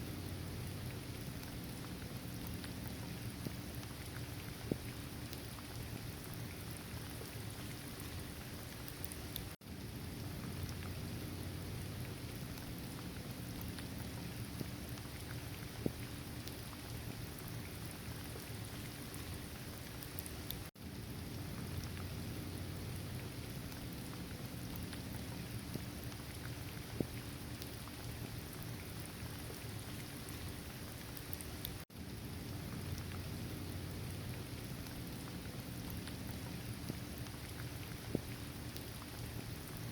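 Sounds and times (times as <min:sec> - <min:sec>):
raindrop ticks: 0:00.0 - 0:39.9
steady rain falling: 0:00.0 - 0:39.9.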